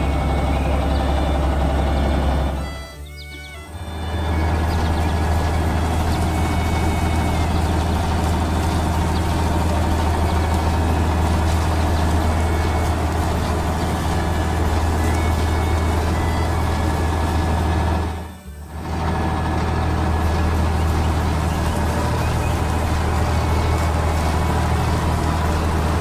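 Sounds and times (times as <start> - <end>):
heavy vehicle engine humming: 0.0 - 26.0.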